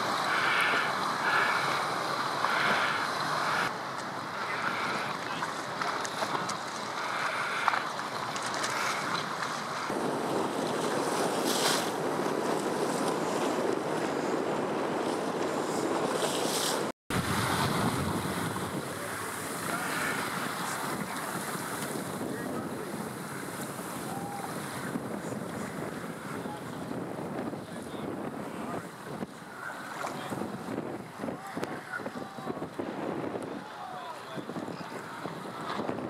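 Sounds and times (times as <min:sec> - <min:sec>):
waves splashing: 0:00.0 - 0:36.0
wind rushing over microphone: 0:00.0 - 0:36.0.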